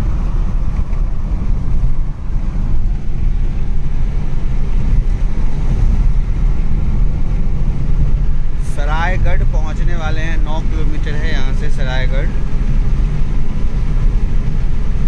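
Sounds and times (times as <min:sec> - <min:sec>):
car tyre and wind rumble: 0:00.0 - 0:15.0.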